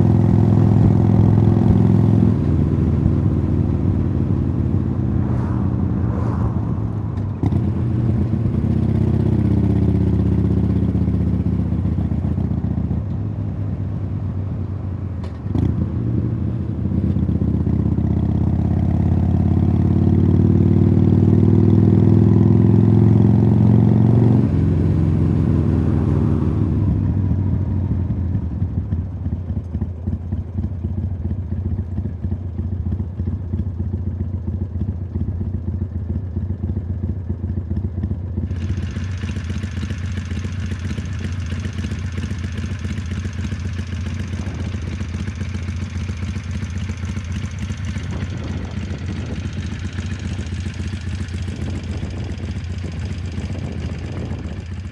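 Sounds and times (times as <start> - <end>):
motorcycle engine revving: 0.0 - 13.0, 15.4 - 54.9.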